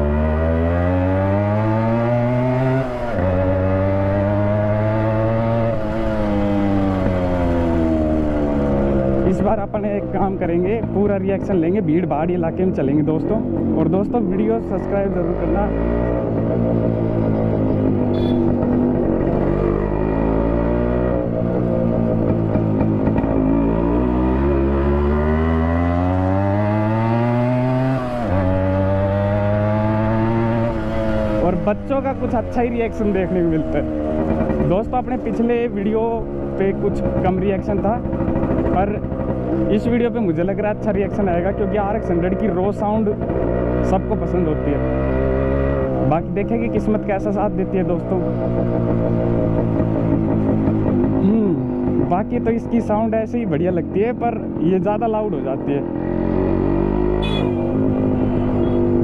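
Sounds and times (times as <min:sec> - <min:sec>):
two-stroke motorcycle engine revving: 0:00.0 - 0:12.1, 0:13.2 - 0:59.0.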